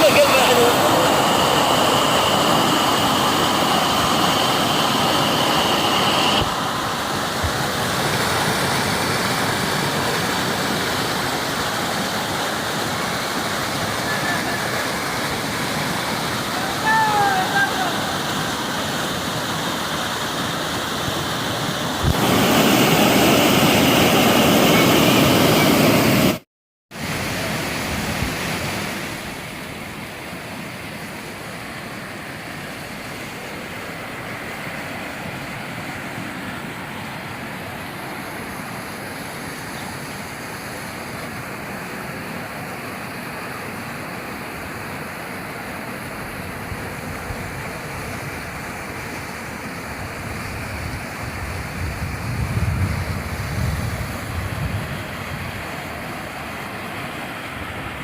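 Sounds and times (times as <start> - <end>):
running rainwater: 0.0 - 58.0.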